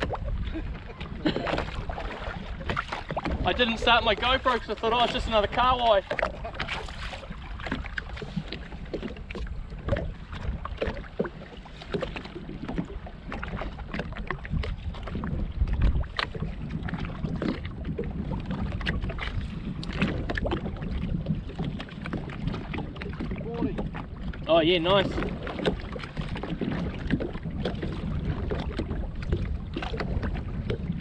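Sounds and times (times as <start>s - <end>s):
waves slapping against hull: 0.0s - 31.0s
wind buffeting microphone: 0.0s - 31.0s.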